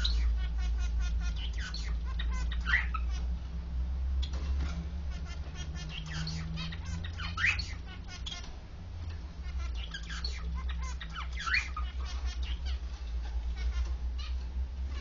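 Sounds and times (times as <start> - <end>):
finches singing and chirping: 0.0 - 3.4, 4.2 - 15.0
steady low hum: 0.0 - 15.0.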